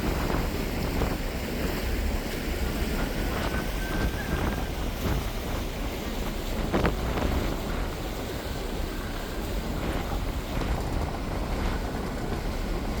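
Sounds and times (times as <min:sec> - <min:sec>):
ferry engine rumble: 0:00.0 - 0:13.0
water wash: 0:00.0 - 0:13.0
wind buffeting microphone: 0:00.0 - 0:13.0.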